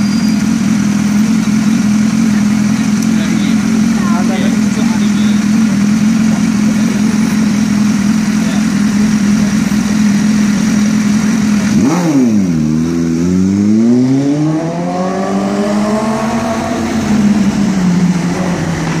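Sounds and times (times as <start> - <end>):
motorcycle accelerating: 0.0 - 19.0
motorcycle engine revving: 0.0 - 19.0.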